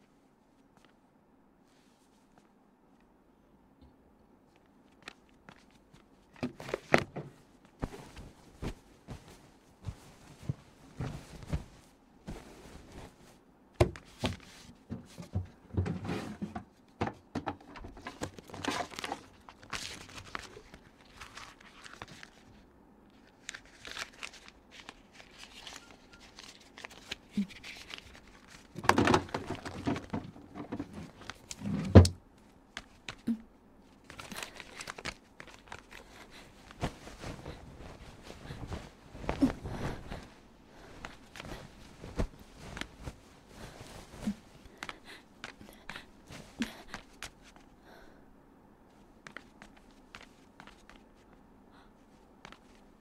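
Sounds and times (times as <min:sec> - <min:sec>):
blanket and pillows rustling: 0:04.5 - 0:16.3, 0:18.3 - 0:48.0, 0:48.9 - 0:51.4.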